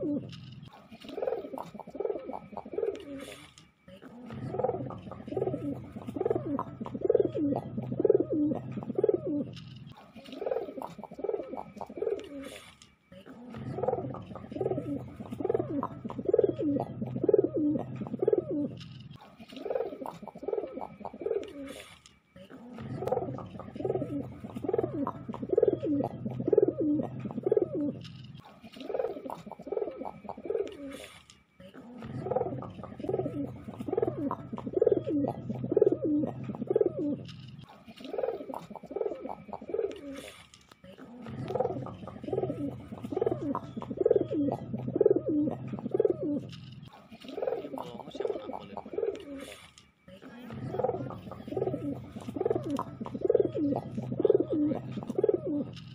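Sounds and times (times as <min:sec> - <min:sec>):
pigeons cooing: 0:00.0 - 0:55.9.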